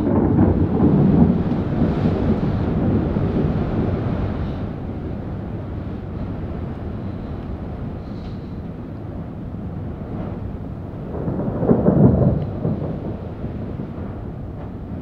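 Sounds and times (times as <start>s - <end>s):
deep rumble of thunder: 0.0s - 15.0s.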